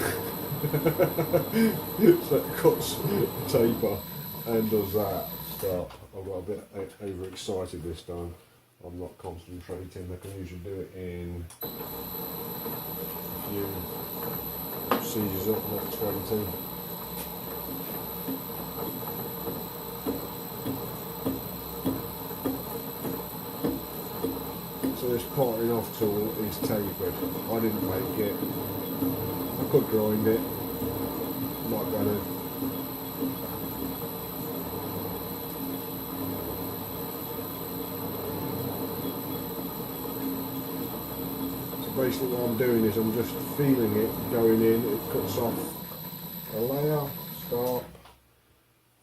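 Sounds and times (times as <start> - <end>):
lathe cutting metal: 0.0 - 5.6, 11.6 - 47.8
faint high whine: 0.0 - 5.9, 11.6 - 48.0
steady machine hum: 0.0 - 5.9, 11.6 - 48.0.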